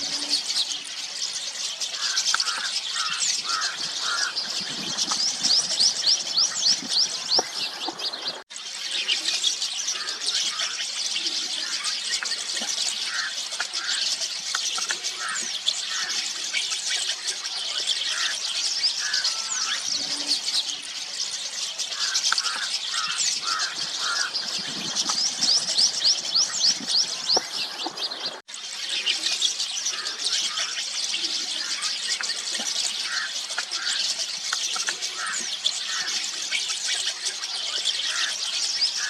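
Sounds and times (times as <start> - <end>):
starlings chattering: 0.0 - 39.0.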